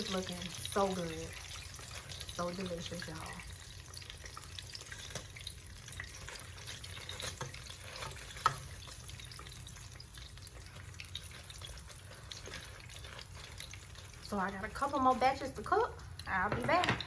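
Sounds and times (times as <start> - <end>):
chicken sizzling in deep fryer: 0.0 - 17.0.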